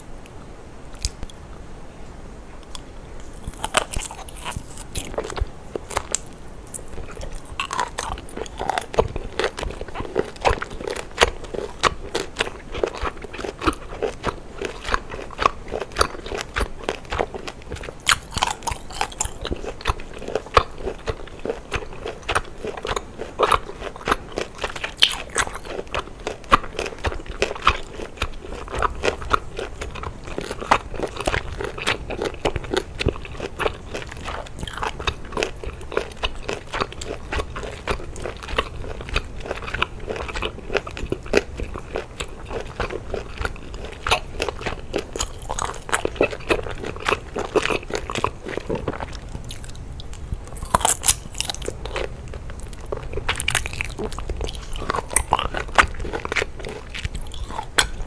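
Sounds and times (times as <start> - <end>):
crunchy wet chewing: 0.0 - 1.4, 2.6 - 58.0.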